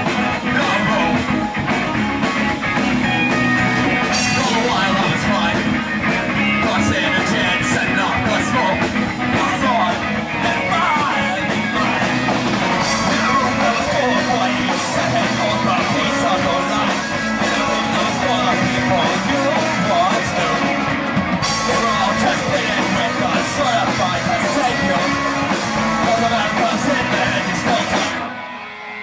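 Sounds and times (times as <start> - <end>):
person singing: 0.0 - 1.6, 3.3 - 28.3
punk rock band playing live: 0.0 - 29.0.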